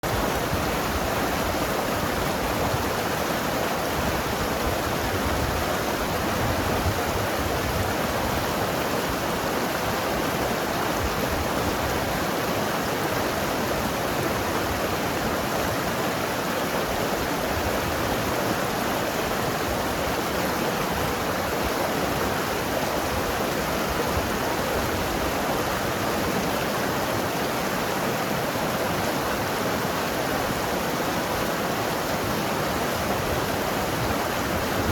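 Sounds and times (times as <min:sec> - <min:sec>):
river rushing over rocks: 0:00.0 - 0:34.9.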